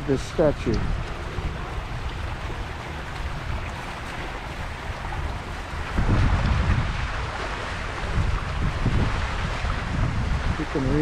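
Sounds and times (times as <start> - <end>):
fountain water splashing: 0.0 - 11.0
wind buffeting microphone: 0.0 - 11.0.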